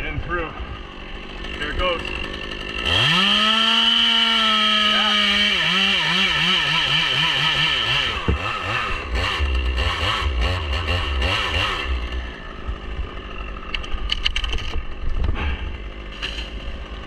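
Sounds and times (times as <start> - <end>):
chainsaw revving and idling: 0.0 - 17.0.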